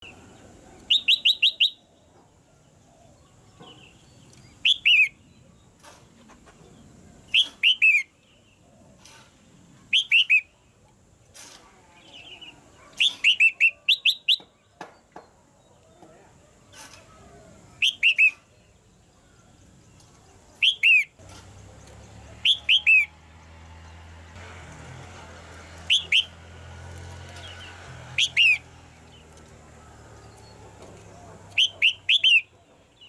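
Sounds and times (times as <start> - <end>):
bird chirping: 0.0 - 10.8, 11.8 - 16.2, 17.0 - 23.1, 25.8 - 26.4, 27.2 - 33.0.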